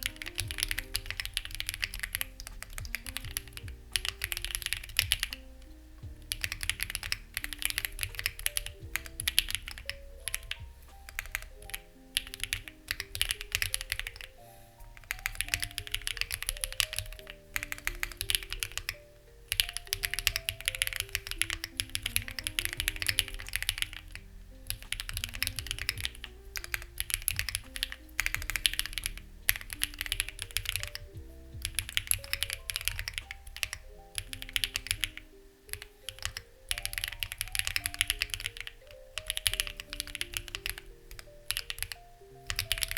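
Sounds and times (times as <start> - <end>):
mechanical keyboard typing: 0.0 - 42.9.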